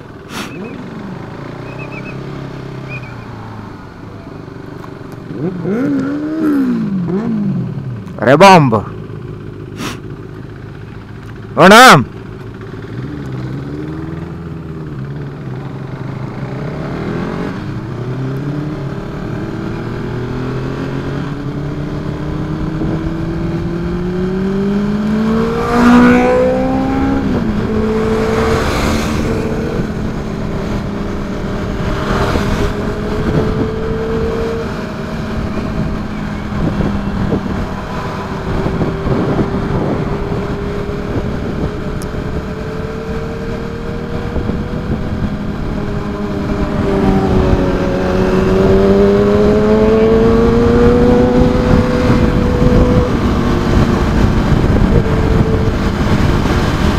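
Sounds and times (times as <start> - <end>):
motorcycle engine accelerating: 0.0 - 8.2, 8.8 - 56.9.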